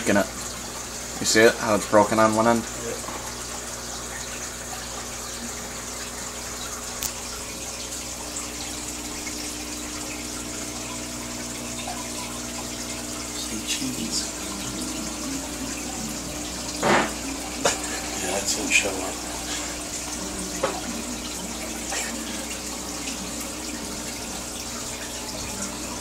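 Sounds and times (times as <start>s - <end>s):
bubbling trickling water: 0.0s - 26.0s
low steady hum: 2.7s - 26.0s.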